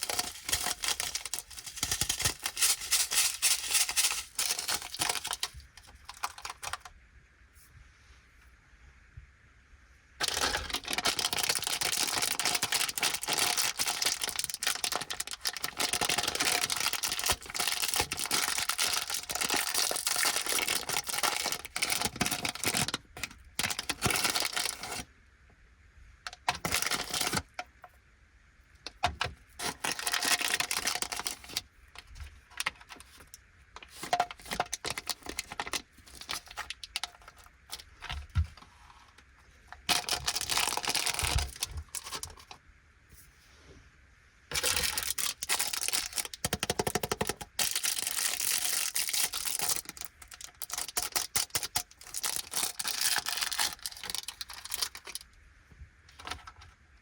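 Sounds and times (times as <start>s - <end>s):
plastic packaging crinkling: 0.0s - 6.9s, 10.2s - 25.1s, 26.3s - 27.7s, 28.8s - 42.6s, 44.5s - 55.3s.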